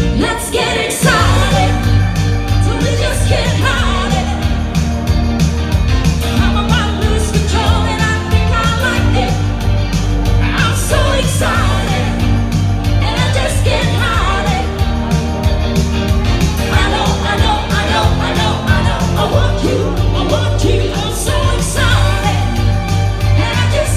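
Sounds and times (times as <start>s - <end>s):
bass: 0.0s - 23.9s
steady drum beat: 0.0s - 23.9s.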